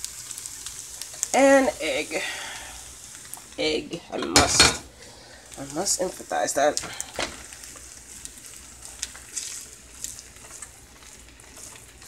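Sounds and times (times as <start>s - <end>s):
fried rice sizzling in a wok: 0.0s - 12.0s.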